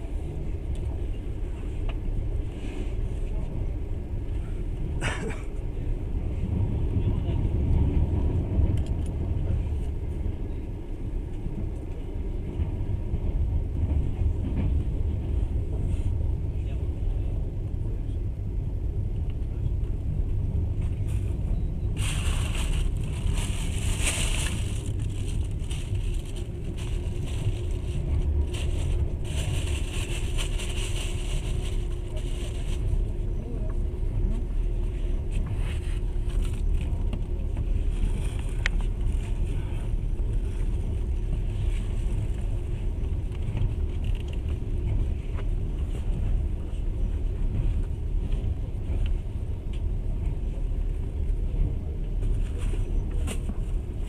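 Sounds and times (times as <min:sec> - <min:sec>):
train rumbling from inside carriage: 0:00.0 - 0:54.0.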